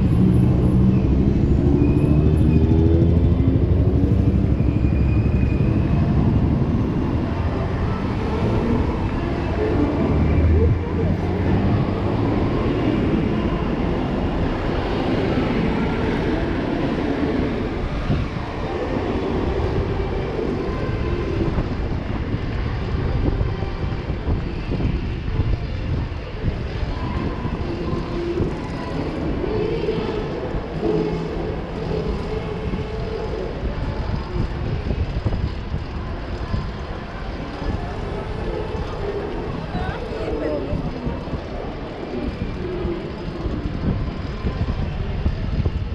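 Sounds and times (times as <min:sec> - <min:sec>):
city traffic rumble: 0:00.0 - 0:45.9.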